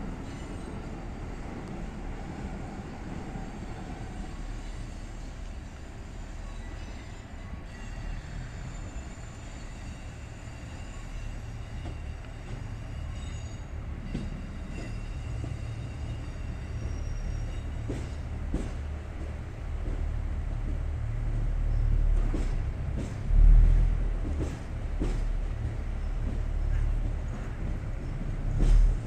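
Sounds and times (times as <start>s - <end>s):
diesel train engines rumbling: 0.0s - 29.0s.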